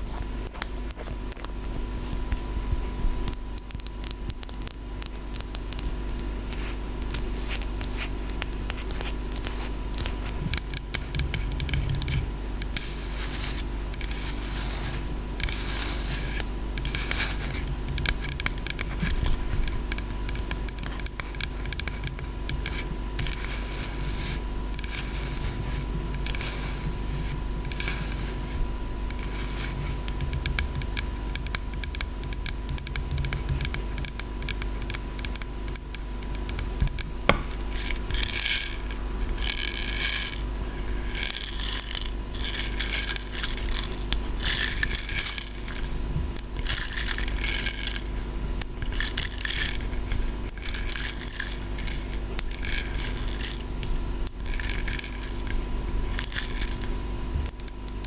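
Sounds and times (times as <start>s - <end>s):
scratching strokes: 6.4s - 35.1s, 36.2s - 57.2s.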